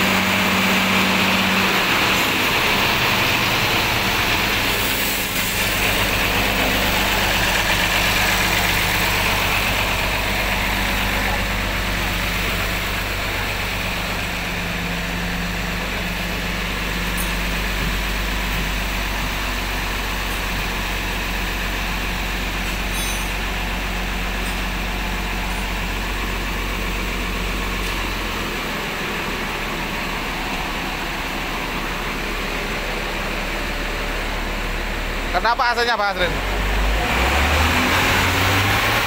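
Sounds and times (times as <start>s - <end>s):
bus diesel engine idling: 0.0s - 39.0s.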